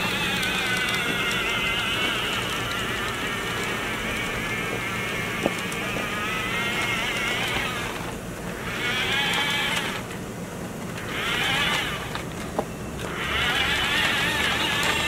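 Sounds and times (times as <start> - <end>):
toy truck motor whining: 0.0 - 10.2, 10.8 - 15.0.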